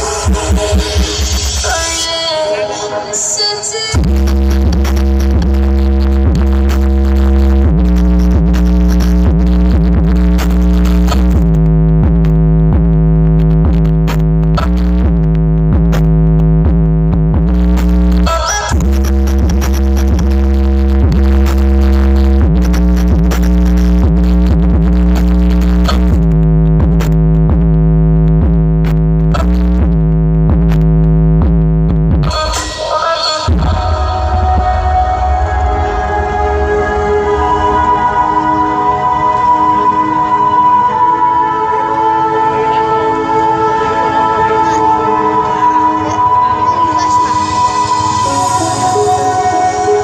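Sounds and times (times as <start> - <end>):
electronic dance music over speakers: 0.0 - 50.0.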